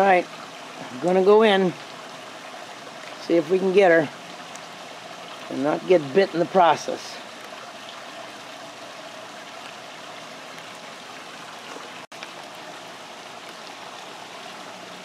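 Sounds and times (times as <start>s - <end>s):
running water hiss: 0.0s - 15.0s.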